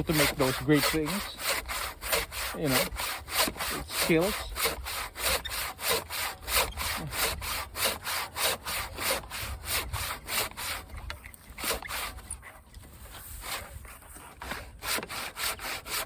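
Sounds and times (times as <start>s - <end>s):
hand saw cutting wood: 0.0s - 16.0s.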